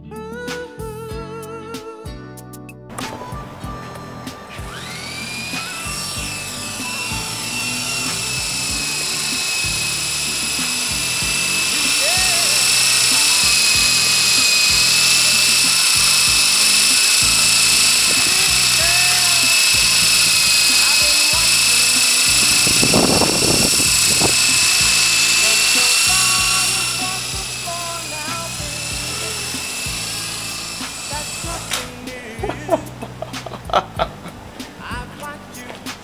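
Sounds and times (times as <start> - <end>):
music: 0.0 - 36.0
rc helicopter motor whine: 3.0 - 32.4.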